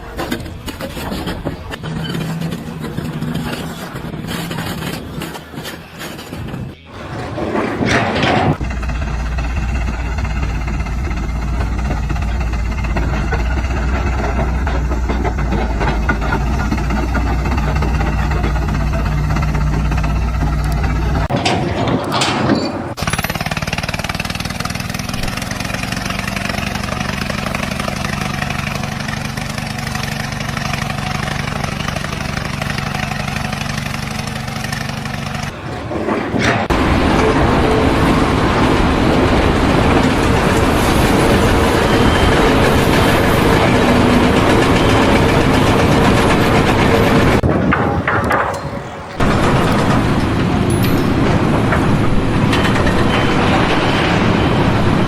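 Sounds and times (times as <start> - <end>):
engine humming: 0.0 - 55.0
rough machine noise: 0.0 - 55.0.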